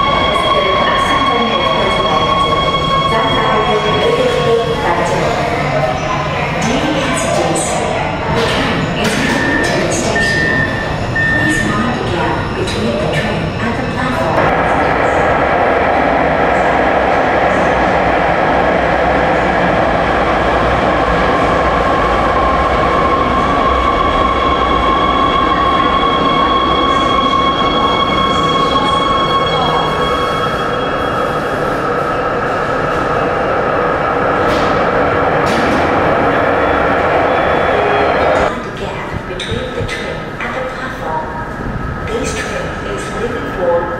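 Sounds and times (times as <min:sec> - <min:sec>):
subway train braking to a stop: 0:00.0 - 0:38.8
train rumble: 0:00.0 - 0:43.9.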